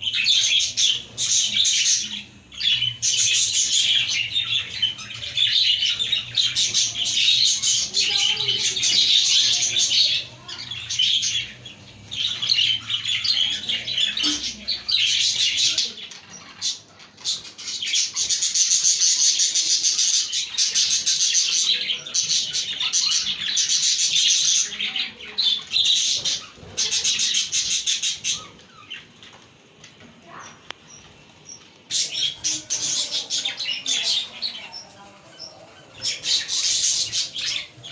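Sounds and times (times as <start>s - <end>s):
budgerigars chirping and warbling: 0.0s - 29.6s, 30.2s - 37.9s.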